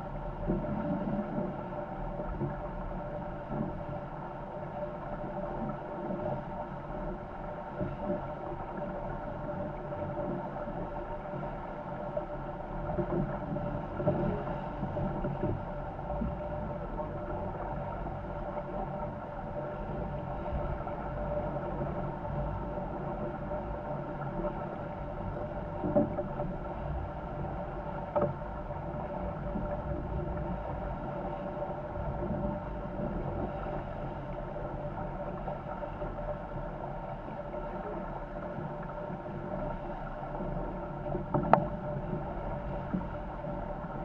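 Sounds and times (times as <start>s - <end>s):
steady hum: 0.0s - 44.0s
water rushing along hulls: 0.0s - 44.0s
wind: 0.0s - 44.0s.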